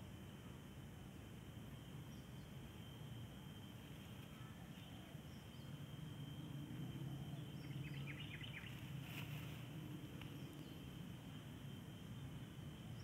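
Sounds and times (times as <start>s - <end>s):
high insect drone: 0.0s - 13.0s
low steady rumble: 0.0s - 13.0s
faint bird chirps: 0.1s - 13.0s.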